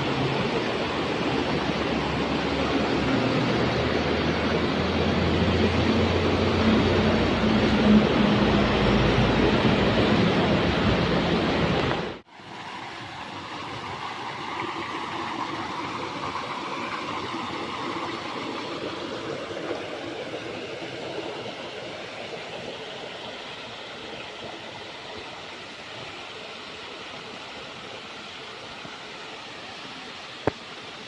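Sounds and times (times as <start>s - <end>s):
falling water rushing: 0.0s - 31.0s.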